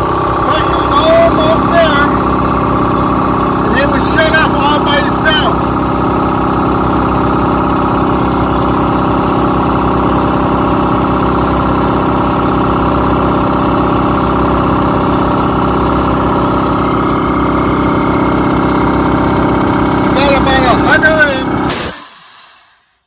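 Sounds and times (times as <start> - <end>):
air compressor running: 0.0 - 23.0.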